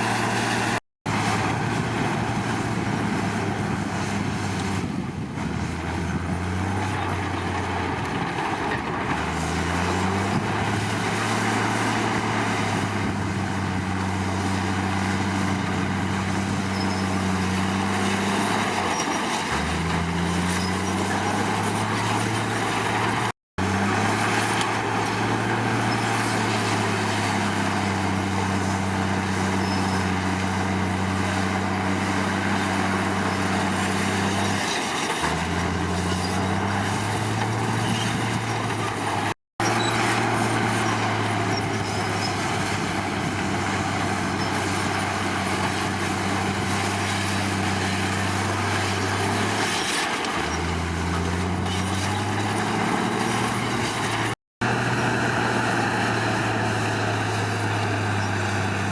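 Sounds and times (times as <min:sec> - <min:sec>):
bulldozer diesel engine under load: 0:00.0 - 0:58.9.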